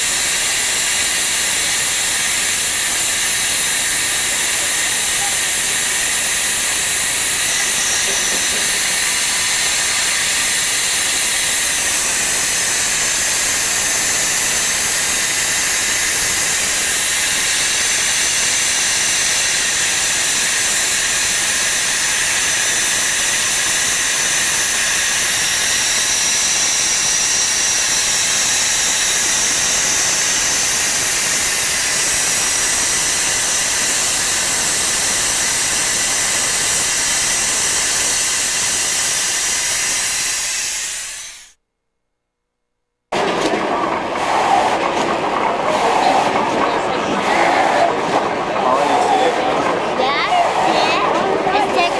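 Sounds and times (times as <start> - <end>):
lathe running with loud hiss: 0.0 - 41.6, 43.1 - 51.9.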